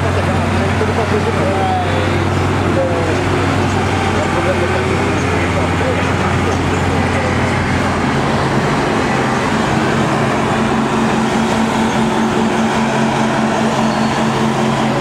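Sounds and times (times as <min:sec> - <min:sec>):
tractor engines idling: 0:00.0 - 0:15.0.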